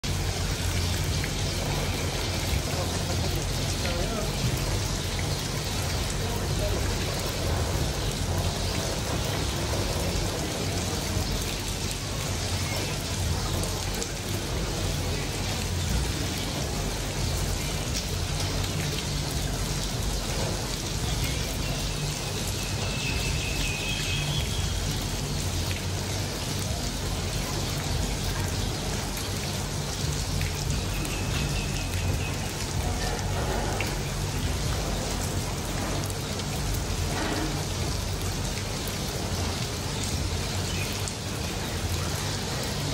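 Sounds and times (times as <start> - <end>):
rain on a wet street: 0.0 - 42.9.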